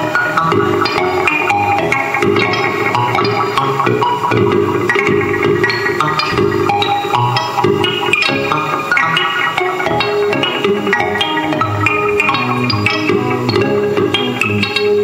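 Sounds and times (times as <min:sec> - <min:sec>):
live music: 0:00.0 - 0:15.0.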